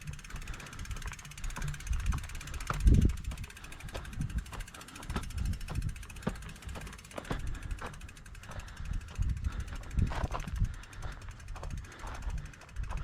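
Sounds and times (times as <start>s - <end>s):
bike freehub ticking: 0.0s - 13.0s.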